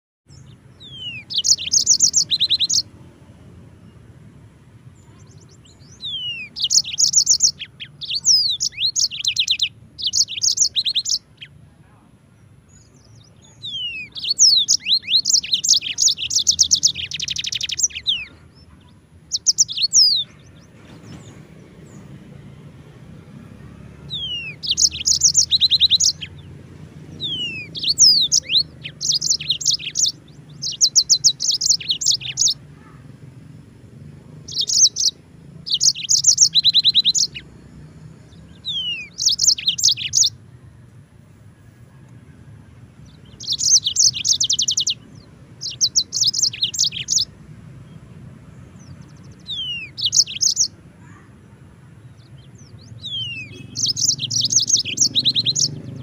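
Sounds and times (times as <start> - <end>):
canary singing trills: 0.3 - 11.6, 12.3 - 56.0.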